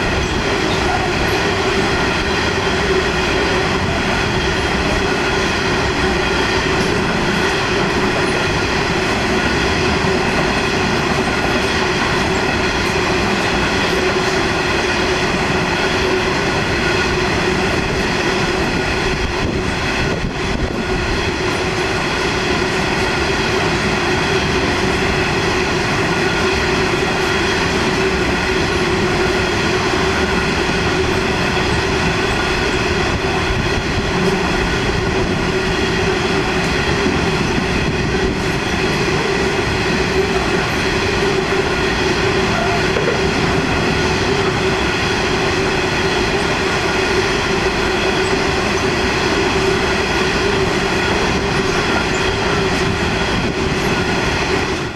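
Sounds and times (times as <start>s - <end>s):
wheels rumbling on rail: 0.0s - 54.9s.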